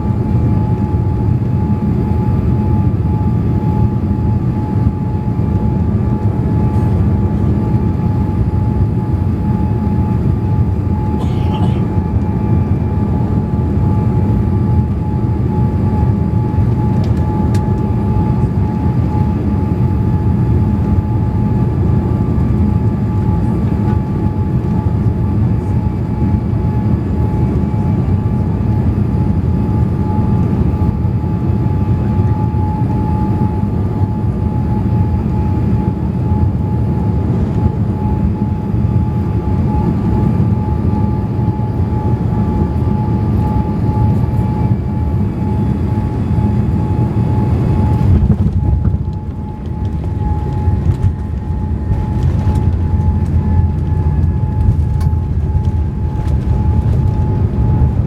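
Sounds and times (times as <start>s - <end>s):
aircraft cabin rumble: 0.0s - 58.0s
constant high whine: 0.0s - 58.0s.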